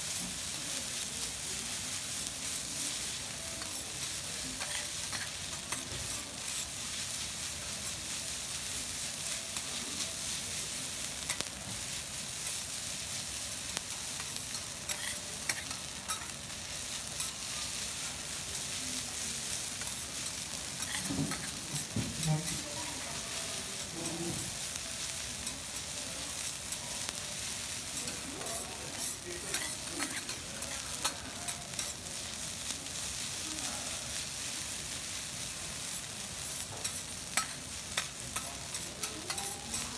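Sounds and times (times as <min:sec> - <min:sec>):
rice sizzling on a griddle: 0:00.0 - 0:39.9.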